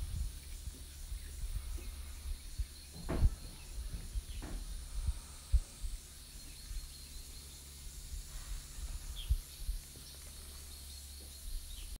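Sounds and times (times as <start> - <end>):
faint bird chirps: 0.0 - 12.0
low rumble: 0.0 - 12.0.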